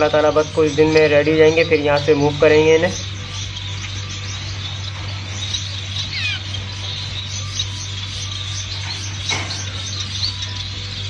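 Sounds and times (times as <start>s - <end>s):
finches chirping: 0.0s - 11.0s
steady low hum: 0.0s - 11.0s.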